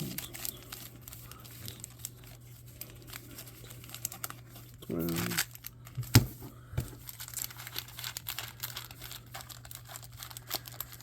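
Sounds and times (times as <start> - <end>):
wrappers crinkling and tearing: 0.0 - 6.2, 6.9 - 11.0.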